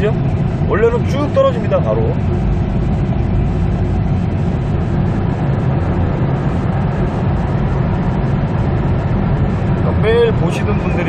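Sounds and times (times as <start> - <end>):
engine and road noise in cabin: 0.0 - 11.0.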